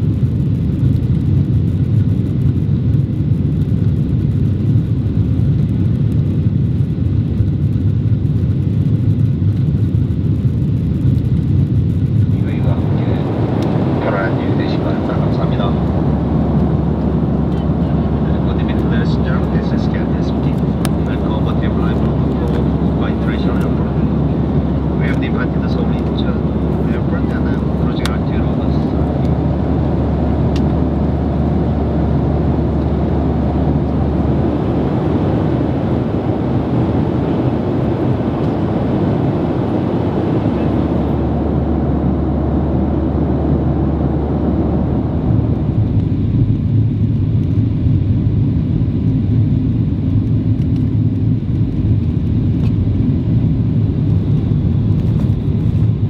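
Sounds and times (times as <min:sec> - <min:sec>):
airplane cabin noise: 0:00.0 - 0:56.0.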